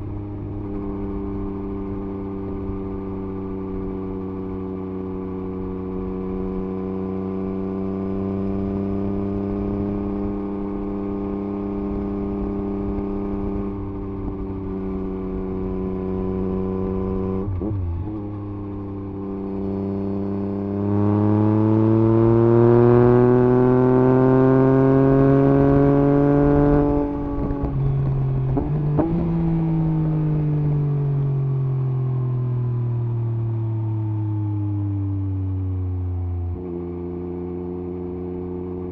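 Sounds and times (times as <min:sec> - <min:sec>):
motorcycle engine running: 0:00.0 - 0:31.6, 0:35.6 - 0:38.9.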